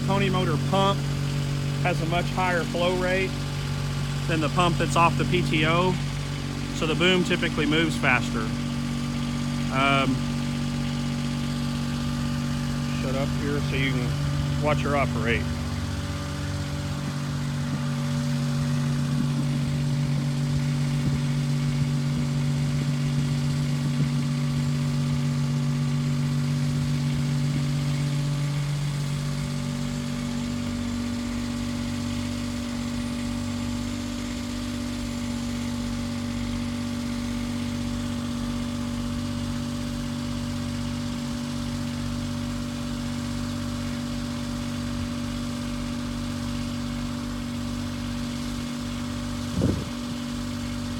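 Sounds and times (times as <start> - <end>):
small motor humming: 0.0 - 50.9.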